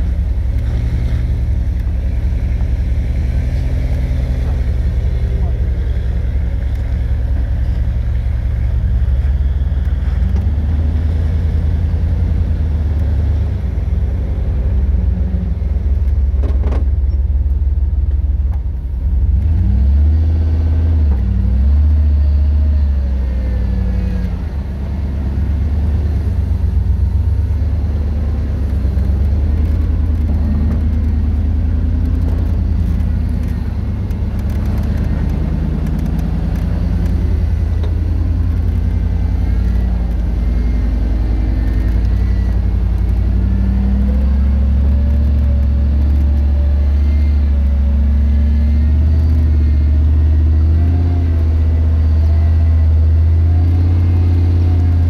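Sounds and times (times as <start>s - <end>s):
engine running at low revs: 0.0s - 55.0s.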